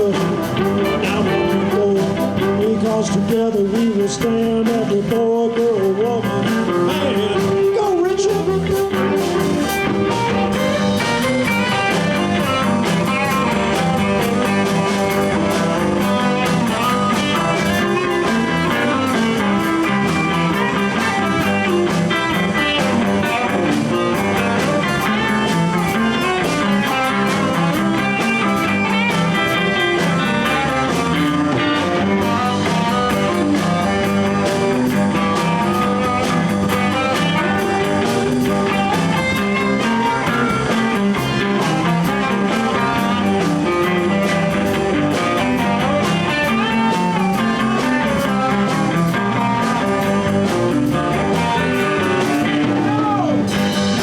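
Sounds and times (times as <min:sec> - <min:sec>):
blues band playing: 0:00.0 - 0:54.0
guitar solo: 0:06.4 - 0:54.0.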